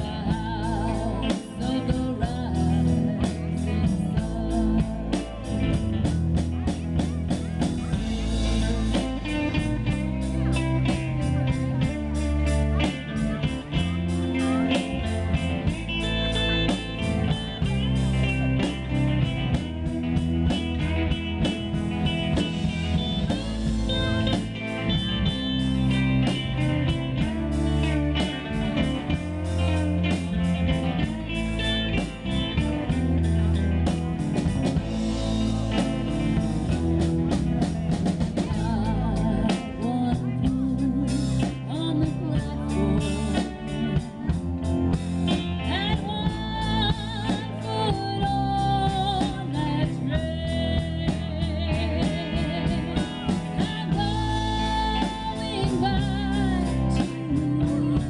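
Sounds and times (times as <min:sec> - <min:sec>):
drum kit steady beat: 0:00.0 - 0:58.0
electric guitar: 0:00.0 - 0:58.0.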